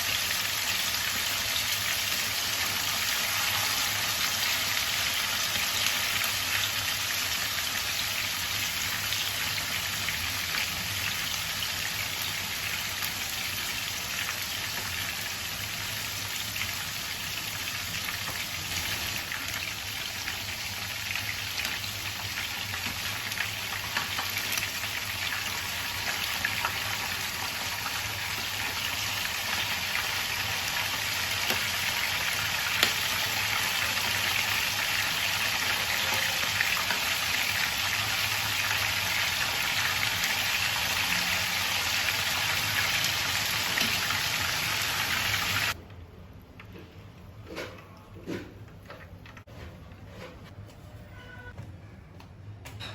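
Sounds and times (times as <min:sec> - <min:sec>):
chicken sizzling in hot oil: 0:00.0 - 0:45.8.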